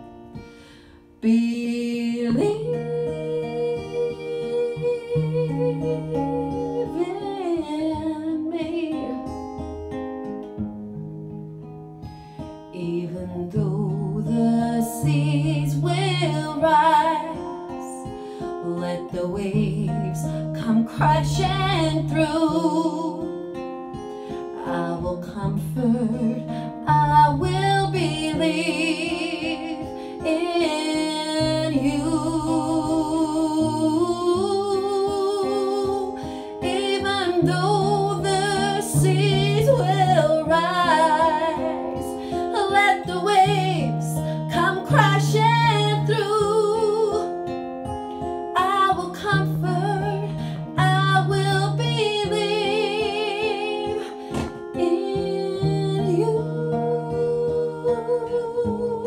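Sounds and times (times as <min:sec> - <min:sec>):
acoustic guitar: 0:00.0 - 0:59.0
woman singing with vibrato: 0:01.2 - 0:09.4, 0:12.7 - 0:23.4, 0:24.6 - 0:47.6, 0:48.6 - 0:59.0.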